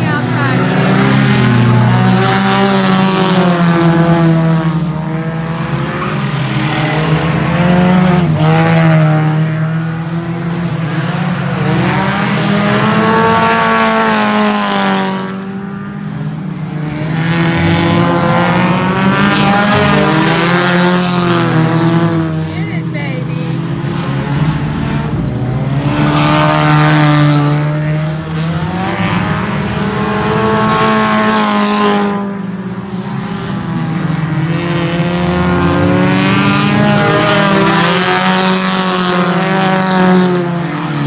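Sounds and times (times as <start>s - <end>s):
race car engines revving: 0.0s - 41.0s.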